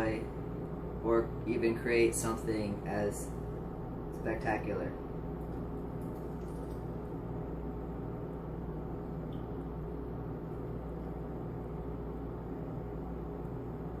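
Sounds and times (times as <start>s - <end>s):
low hum with fixed tones: 0.0s - 14.0s.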